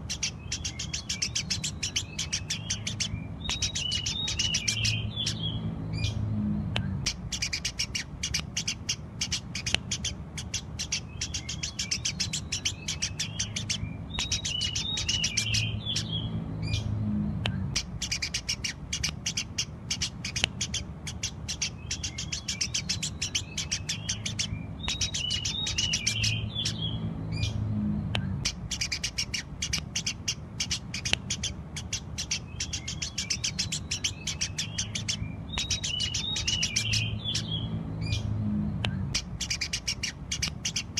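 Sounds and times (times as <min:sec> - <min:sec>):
sparrows chirping: 0:00.0 - 0:40.9
steady low hum: 0:00.0 - 0:40.9.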